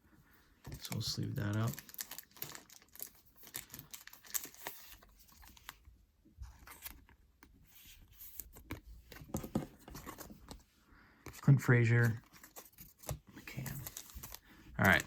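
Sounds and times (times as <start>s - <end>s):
trading cards rustling and clicking: 0.6s - 15.0s.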